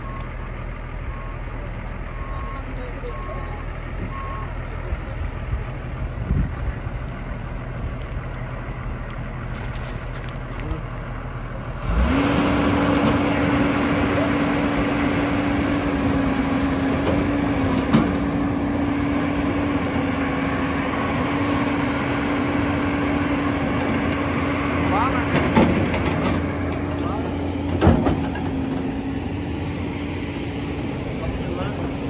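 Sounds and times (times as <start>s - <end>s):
excavator diesel engine: 0.0s - 32.0s.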